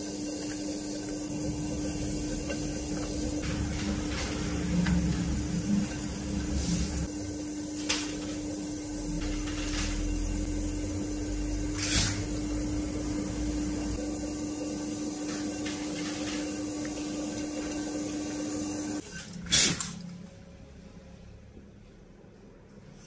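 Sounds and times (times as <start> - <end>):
electric potter's wheel humming: 0.0 - 19.4.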